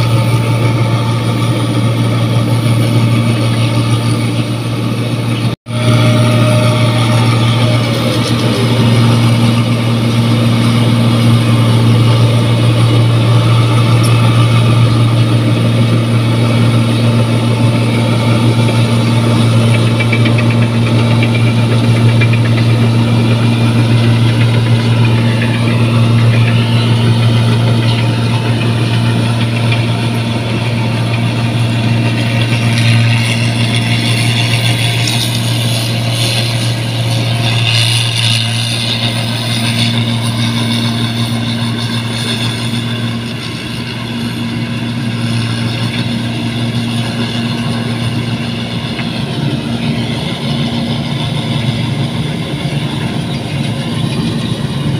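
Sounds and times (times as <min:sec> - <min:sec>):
clatter of cutting machinery: 0:00.0 - 0:54.9
combine harvester engine hum: 0:00.0 - 0:54.9.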